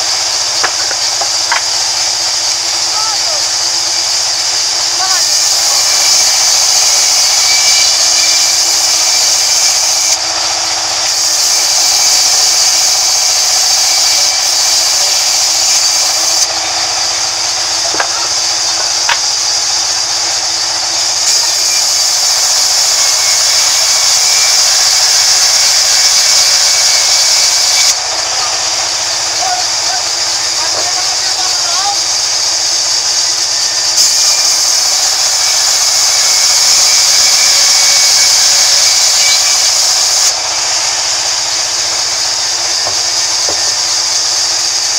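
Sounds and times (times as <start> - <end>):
machine hum: 0.0 - 33.0, 34.1 - 44.2
band saw blade hissing in wood: 0.0 - 44.9.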